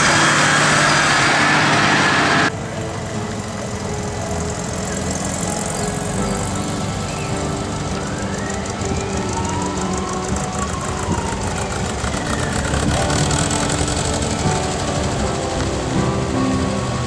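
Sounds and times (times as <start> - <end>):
car driving by: 0.0 - 17.0
car engines running: 0.0 - 17.0.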